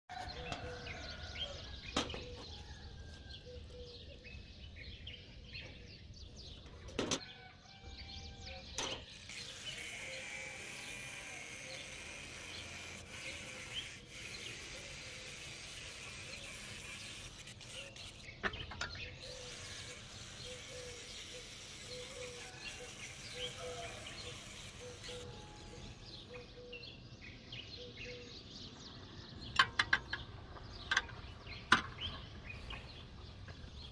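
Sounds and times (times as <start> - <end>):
faint outdoor ambience: 0.1 - 33.9
small birds chirping: 0.1 - 33.9.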